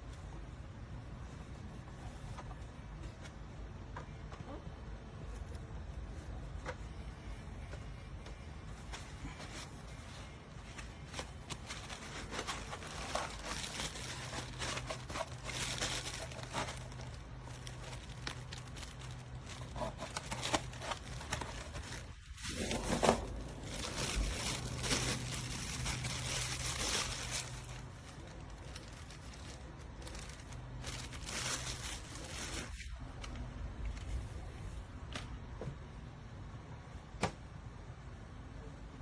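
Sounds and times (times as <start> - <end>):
rustling and crinkling: 0.0 - 35.8.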